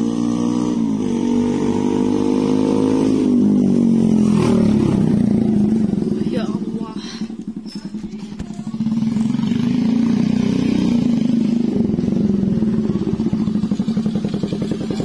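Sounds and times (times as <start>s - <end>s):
minibike engine riding up: 0.0s - 15.0s.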